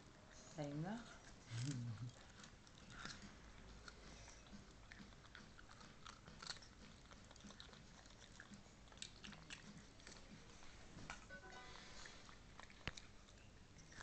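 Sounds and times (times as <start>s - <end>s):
dog crunching a carrot: 1.0s - 14.0s.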